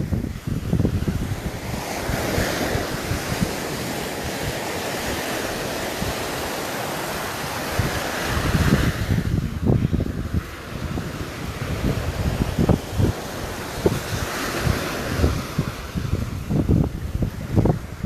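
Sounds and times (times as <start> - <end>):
ocean waves breaking: 0.0 - 18.0
wind gusting on microphone: 0.0 - 18.0.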